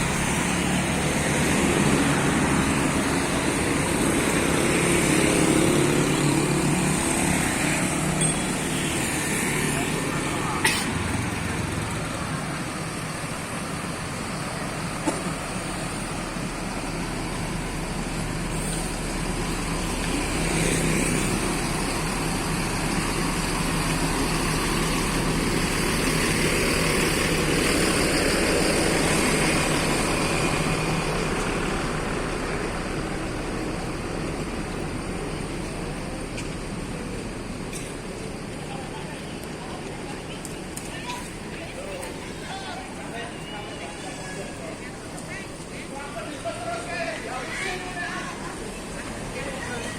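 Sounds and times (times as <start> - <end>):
vehicles passing: 0.0 - 49.9.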